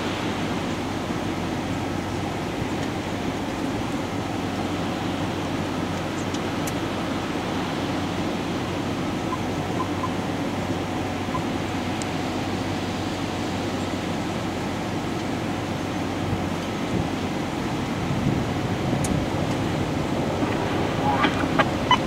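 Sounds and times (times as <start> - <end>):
vehicle idling: 0.0 - 22.0.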